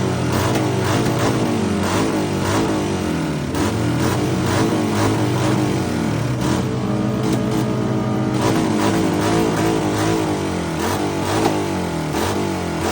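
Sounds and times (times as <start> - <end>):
motorbike engine revving: 0.0 - 12.9.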